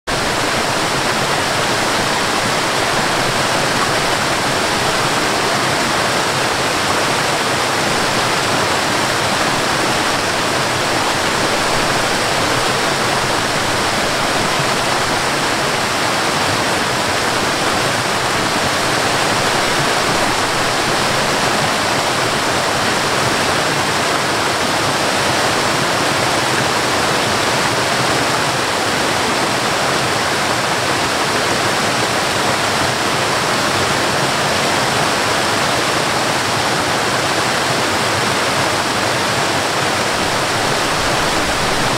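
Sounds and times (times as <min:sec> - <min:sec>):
waterfall rushing over rocks: 0:00.1 - 0:41.9.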